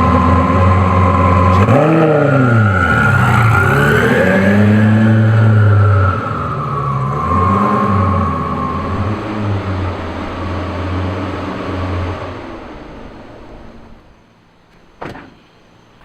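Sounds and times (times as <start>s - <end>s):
sports car engine running: 0.0s - 14.2s
high turbo whine: 0.0s - 16.0s.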